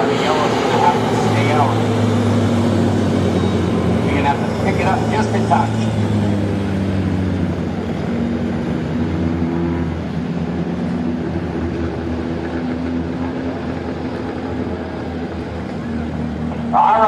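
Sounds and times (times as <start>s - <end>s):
race truck engines droning: 0.0s - 17.0s.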